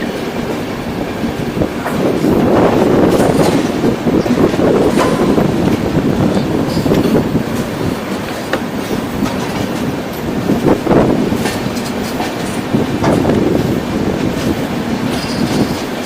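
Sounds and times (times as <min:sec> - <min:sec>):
train rumbling on track: 0:00.0 - 0:16.0
wheels clacking over rail joints: 0:00.0 - 0:16.0.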